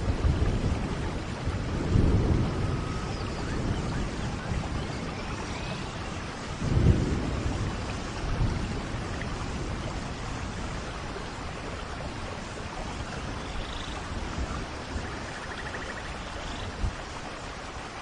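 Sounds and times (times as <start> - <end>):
thunder rumbling: 0.0 - 17.0
steady rain: 0.0 - 18.0.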